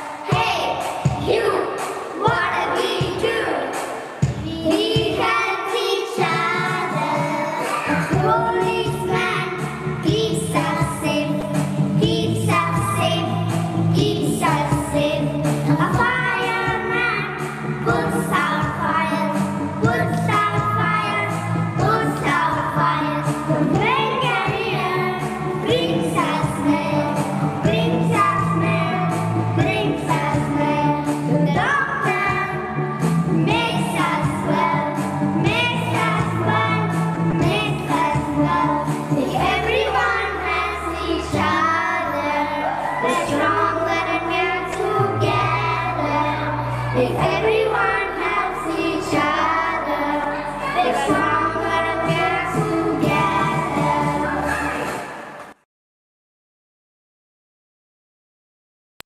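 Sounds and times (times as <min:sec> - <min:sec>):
children singing: 0:00.0 - 0:55.6
musical backing track: 0:00.0 - 0:55.6.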